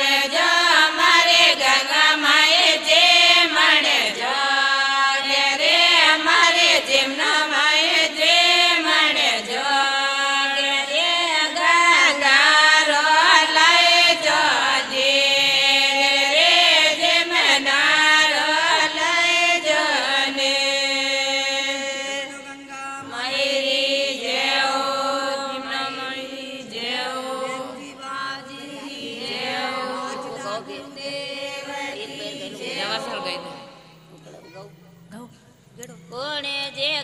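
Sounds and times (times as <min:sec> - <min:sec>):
women singing in unison: 0:00.0 - 0:22.3, 0:23.0 - 0:34.0.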